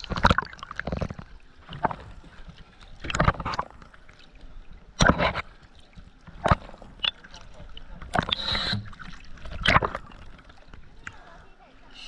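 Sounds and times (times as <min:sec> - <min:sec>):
water slapping around boat: 0:00.0 - 0:12.0.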